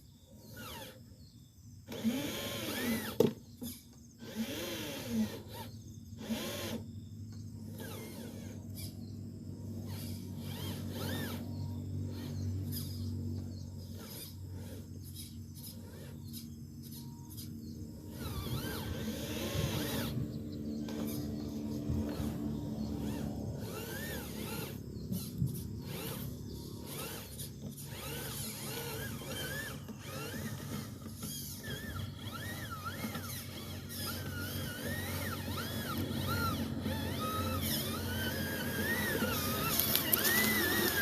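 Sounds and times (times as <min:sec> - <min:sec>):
electric motors whining: 0:00.0 - 0:41.0
low gear hum: 0:00.0 - 0:41.0.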